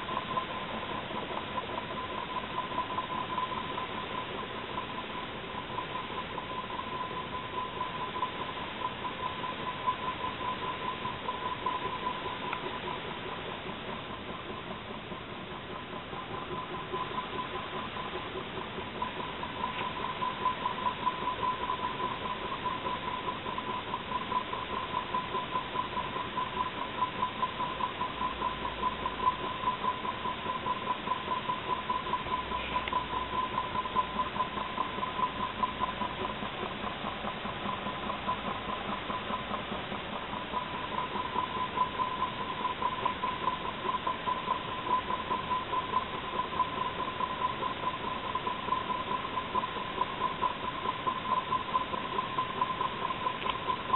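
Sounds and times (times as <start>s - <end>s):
small engine mechanical pulsing: 0.0s - 53.9s.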